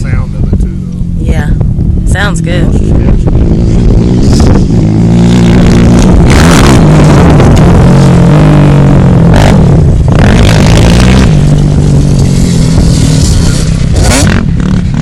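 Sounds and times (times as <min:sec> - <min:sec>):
atv engine revving: 0:00.0 - 0:15.0
noisy rush: 0:00.0 - 0:15.0.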